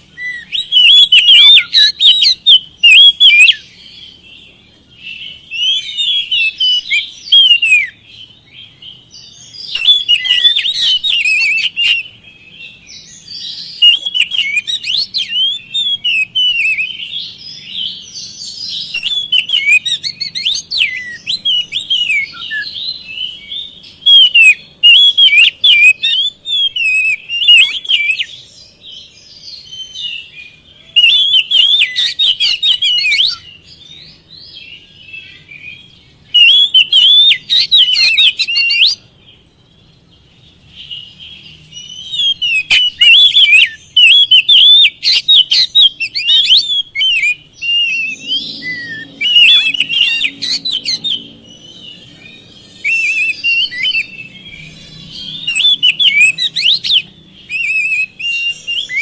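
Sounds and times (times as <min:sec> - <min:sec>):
bird singing whistles: 0:00.0 - 0:39.1, 0:40.8 - 0:59.0.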